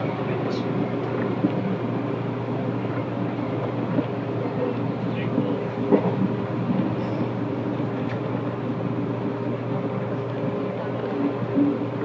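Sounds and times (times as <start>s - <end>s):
electric train running hum: 0.0s - 12.0s.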